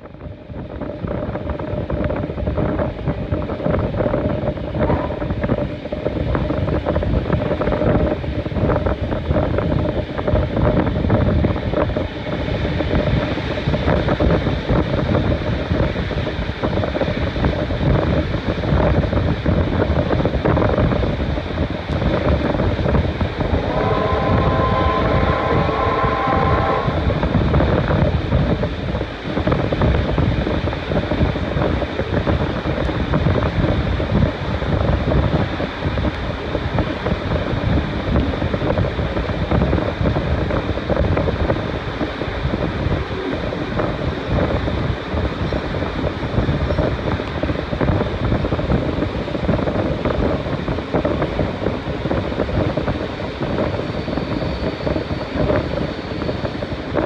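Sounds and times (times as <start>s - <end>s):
train wheels rumbling on rails: 0.0s - 57.0s
wind buffeting microphone: 0.0s - 57.0s.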